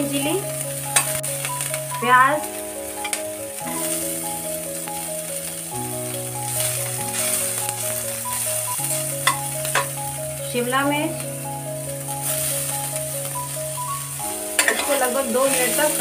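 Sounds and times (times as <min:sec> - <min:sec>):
onions sizzling in oil: 0:00.0 - 0:16.0
slow held chords music: 0:00.0 - 0:16.0.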